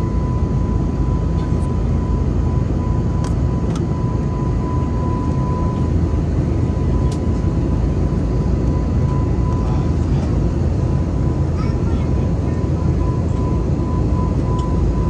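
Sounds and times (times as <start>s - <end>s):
airliner engine roar: 0.0s - 15.0s.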